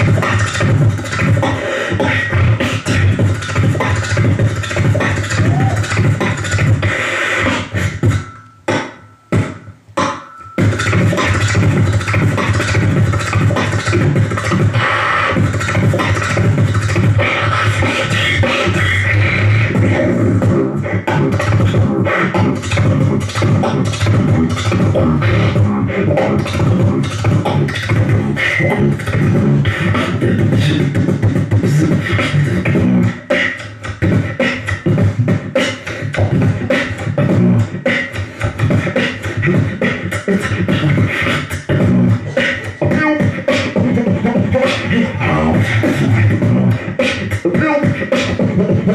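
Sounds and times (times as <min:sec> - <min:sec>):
person beatboxing into microphone: 0:00.0 - 0:48.9.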